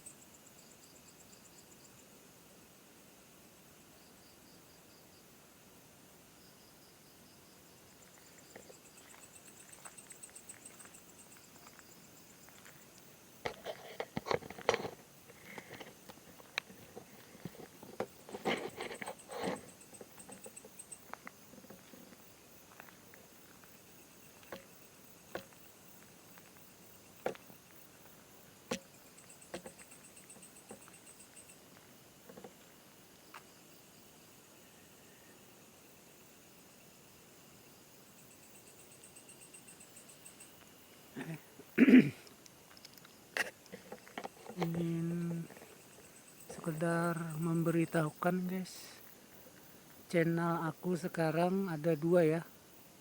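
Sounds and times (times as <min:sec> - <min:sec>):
insects trilling: 0:00.0 - 0:03.1, 0:03.8 - 0:53.0.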